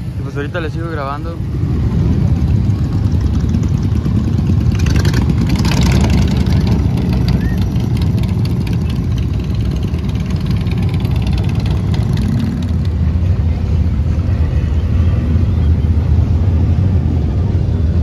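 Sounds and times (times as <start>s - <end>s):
motorcycle engines idling: 0.0s - 17.9s
deeper steady engine sound: 0.0s - 18.0s.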